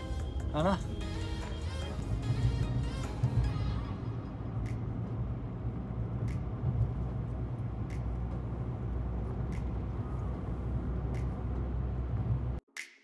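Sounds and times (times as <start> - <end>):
car engine and tyre rumble: 0.0 - 12.6.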